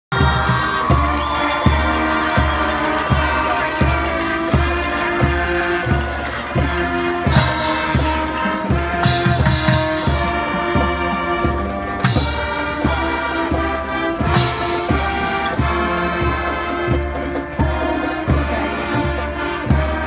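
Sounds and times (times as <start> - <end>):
marching band brass tune: 0.0 - 20.0
bass drum beat: 0.1 - 20.0.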